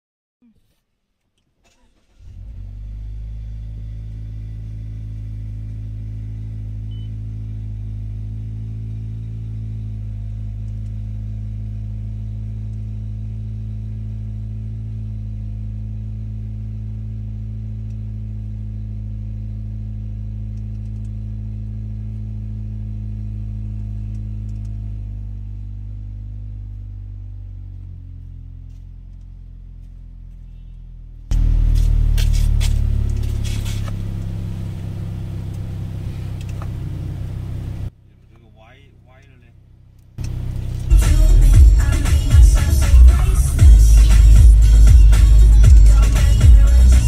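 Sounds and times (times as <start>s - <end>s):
car engine starting and idling: 1.3s - 47.0s.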